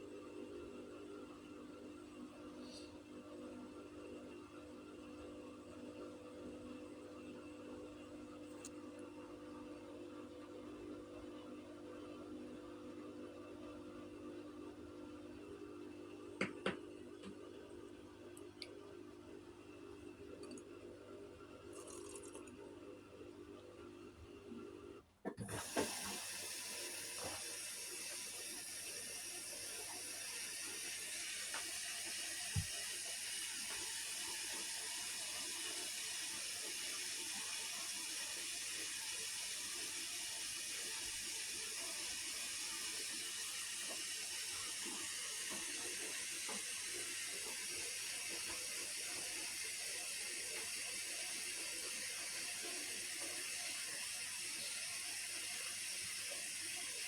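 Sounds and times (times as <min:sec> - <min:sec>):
washing machine low hum: 0:00.0 - 0:57.0.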